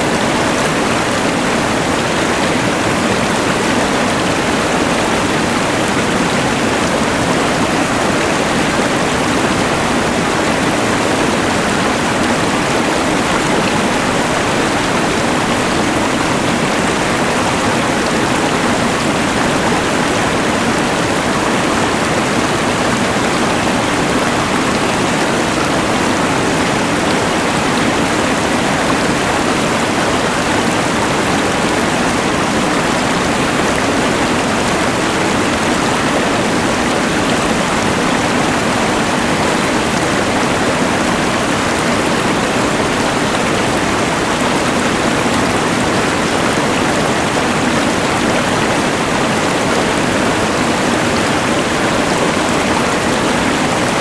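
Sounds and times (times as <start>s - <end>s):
rushing river: 0.0s - 54.0s.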